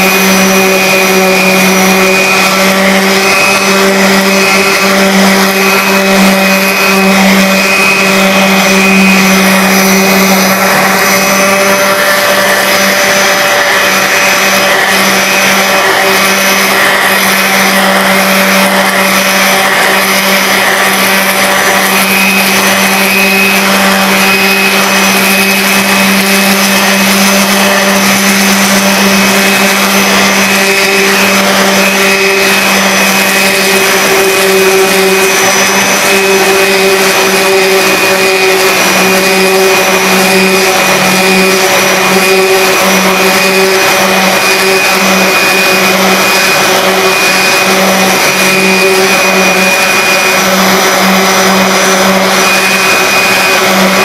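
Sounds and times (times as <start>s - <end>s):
orbital sander on wood: 0.0s - 54.0s.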